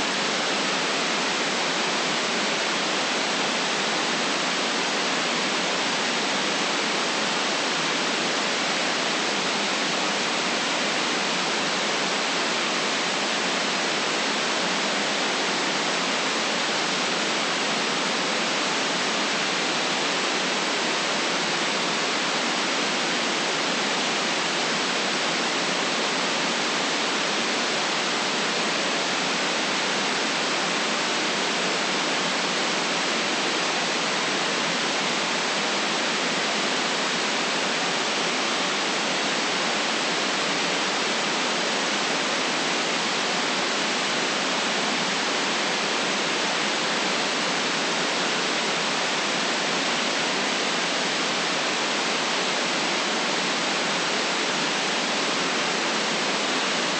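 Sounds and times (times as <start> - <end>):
white noise hiss: 0.0 - 56.9.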